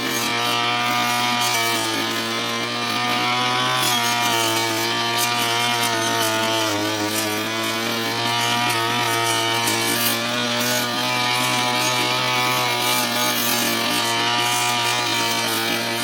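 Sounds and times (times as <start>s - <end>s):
brush cutter cutting grass: 0.0s - 16.0s.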